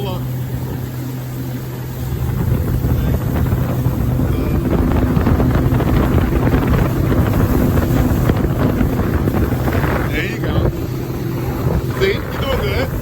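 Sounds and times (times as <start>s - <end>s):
jet ski engine: 0.0s - 13.0s
wind buffeting microphone: 0.0s - 13.0s.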